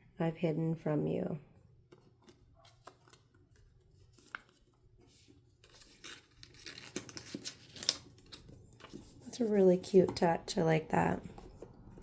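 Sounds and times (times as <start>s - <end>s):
paper and card rustling: 1.9s - 12.0s.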